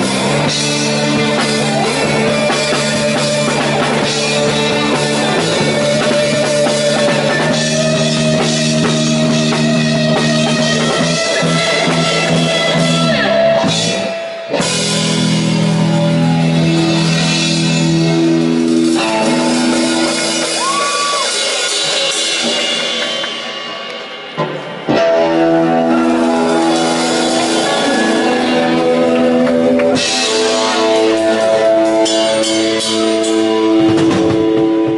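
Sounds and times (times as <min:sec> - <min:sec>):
bass guitar: 0:00.0 - 0:34.9
drums: 0:00.0 - 0:34.9
electric guitar: 0:00.0 - 0:34.9.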